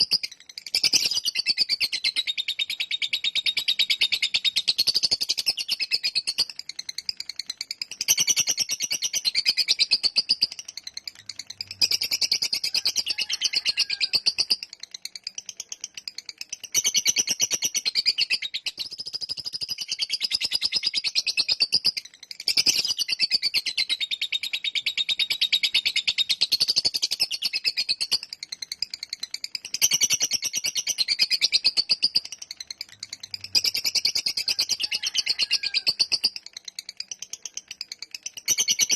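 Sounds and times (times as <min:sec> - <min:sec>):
lovebird chirping trill: 0:00.0 - 0:38.9.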